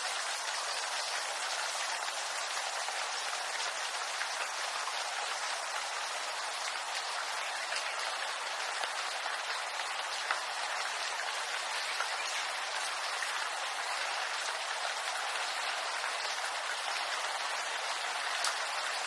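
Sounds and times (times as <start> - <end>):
rain on leaves: 0.0 - 19.0.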